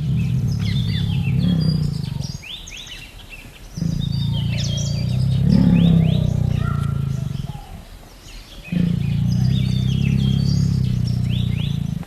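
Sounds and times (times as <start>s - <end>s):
tiger roaring: 0.0s - 2.6s, 3.7s - 12.0s
birds chirping: 0.0s - 12.0s.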